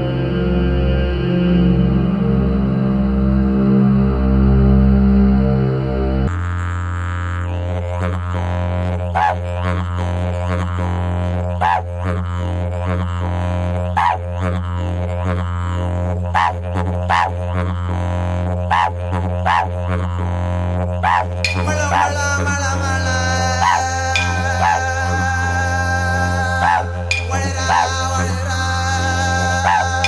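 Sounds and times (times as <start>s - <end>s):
didgeridoo drone: 0.0s - 30.0s.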